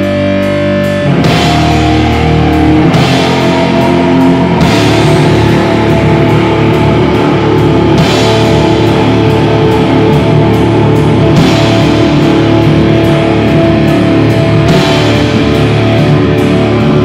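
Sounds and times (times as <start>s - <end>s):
drum kit: 0.0s - 17.0s
electric bass: 0.0s - 17.0s
cymbal crashes: 0.9s - 17.0s.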